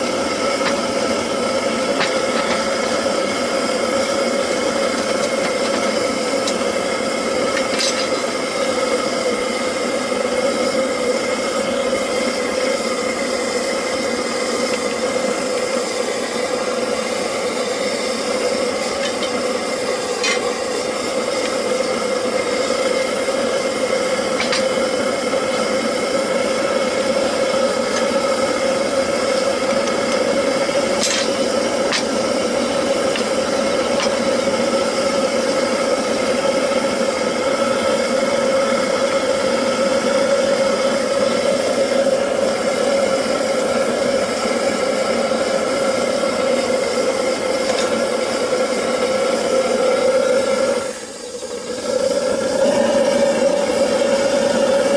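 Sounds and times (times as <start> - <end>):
oil burner roaring: 0.0 - 54.9.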